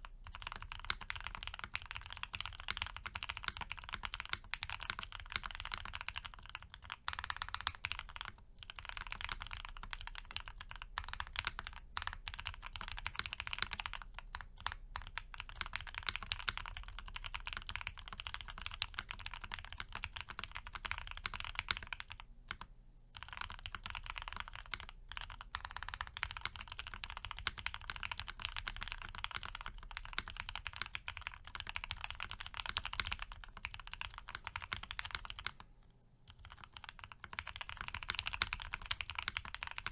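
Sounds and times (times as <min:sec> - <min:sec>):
fast typing on mechanical keyboard: 0:00.0 - 0:35.6, 0:36.3 - 0:39.9.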